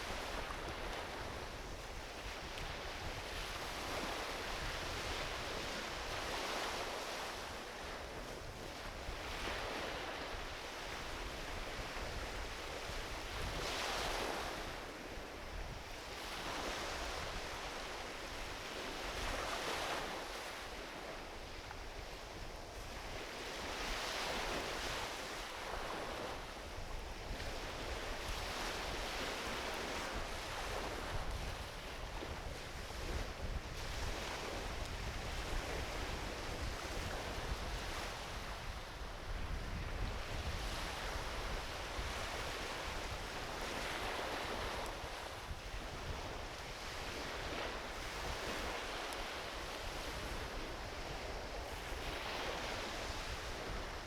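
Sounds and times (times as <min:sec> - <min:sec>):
small waves washing onto beach: 0:00.0 - 0:54.0
wind rumble on microphone: 0:00.0 - 0:54.0.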